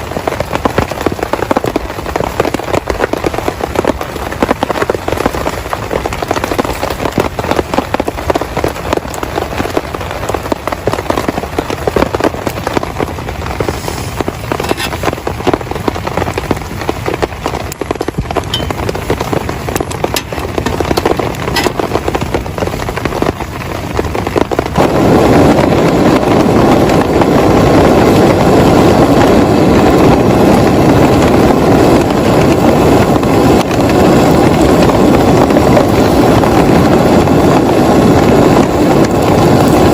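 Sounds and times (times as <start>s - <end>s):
heavy rain on a tarp: 0.0s - 39.9s.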